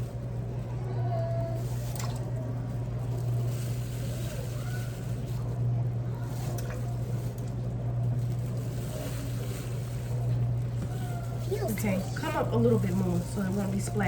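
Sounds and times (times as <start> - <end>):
steady low hum: 0.0 - 14.0
faint voices: 0.2 - 14.0.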